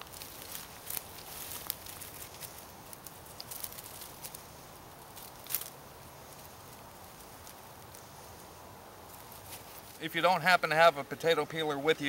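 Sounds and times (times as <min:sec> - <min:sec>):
rustling in dry brush: 0:00.0 - 0:10.1.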